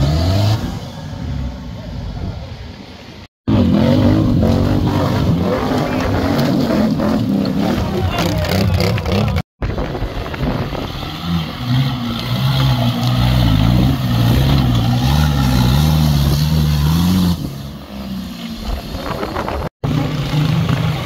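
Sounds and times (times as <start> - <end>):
engine revving under load: 0.0 - 1.6, 3.4 - 9.5, 10.3 - 21.0.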